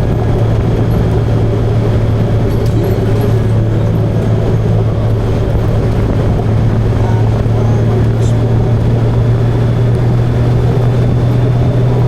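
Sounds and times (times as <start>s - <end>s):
low rumble: 0.0s - 12.0s
motorcycle engine drone: 0.0s - 12.0s.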